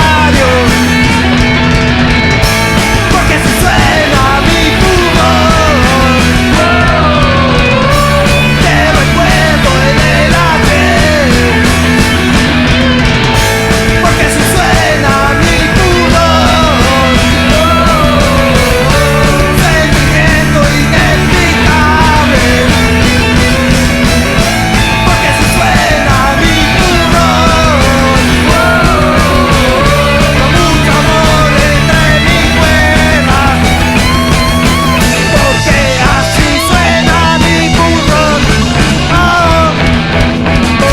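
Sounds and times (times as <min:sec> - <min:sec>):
melodic lead guitar line: 0:00.0 - 0:40.9
punk rock band playing: 0:00.0 - 0:40.9.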